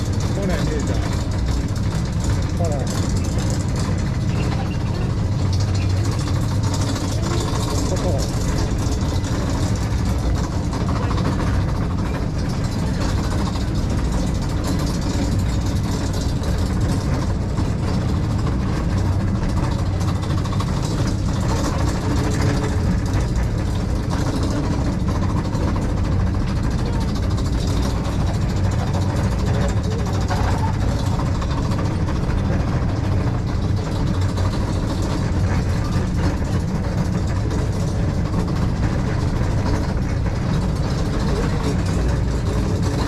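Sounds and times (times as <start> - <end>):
monorail drive unit running: 0.0 - 43.0.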